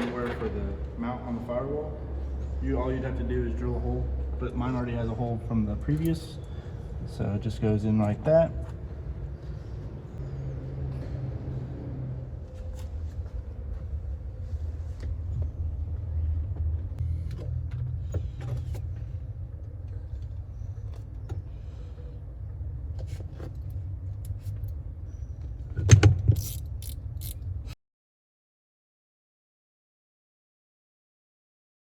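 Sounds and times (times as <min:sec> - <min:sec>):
low steady rumble: 0:00.0 - 0:27.8.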